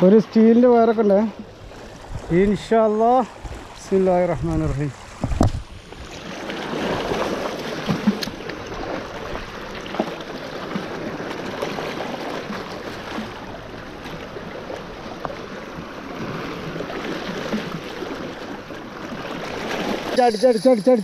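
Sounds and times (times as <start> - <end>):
waves lapping against rocks: 0.0 - 21.0.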